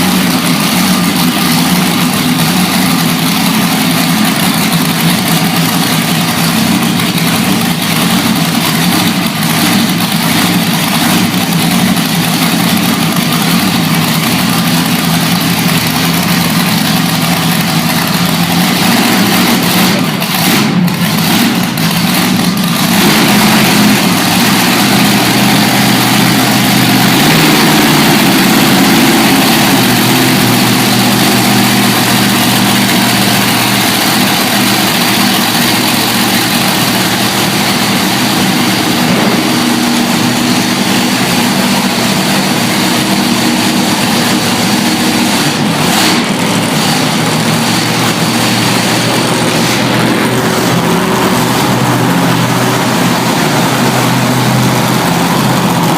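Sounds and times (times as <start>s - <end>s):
truck engine running loudly: 0.0s - 55.9s.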